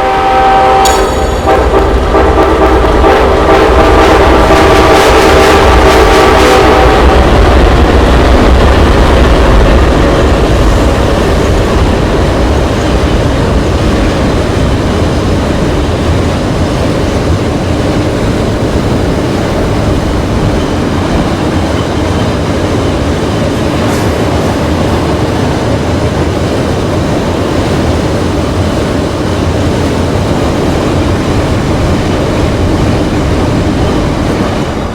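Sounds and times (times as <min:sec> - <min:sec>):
freight train rumble: 0:00.0 - 0:34.9
train wheels clattering on rails: 0:00.0 - 0:34.9.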